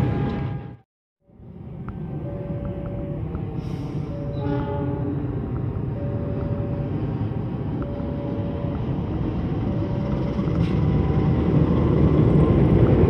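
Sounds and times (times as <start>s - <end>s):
diesel locomotive rumbling past: 0.0s - 13.0s.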